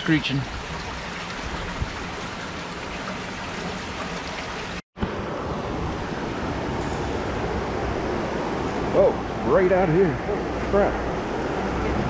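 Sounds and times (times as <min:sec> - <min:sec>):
floodwater rushing: 0:00.0 - 0:12.0
wind: 0:00.0 - 0:12.0.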